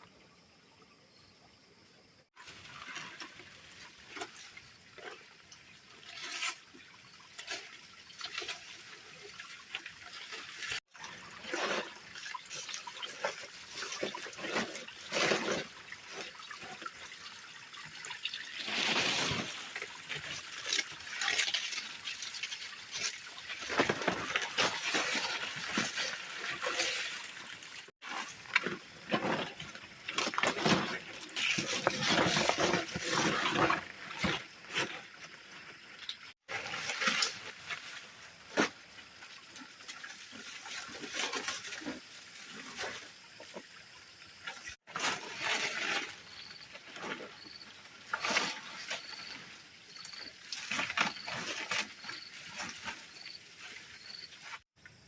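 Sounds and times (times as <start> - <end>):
water splashing and trickling: 2.2 - 55.0.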